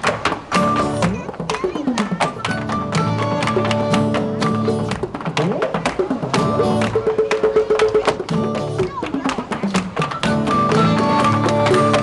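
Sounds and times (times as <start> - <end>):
folk music with guitar and drum: 0.0 - 12.0
hard-shoe dancing on wooden stage: 0.0 - 12.0.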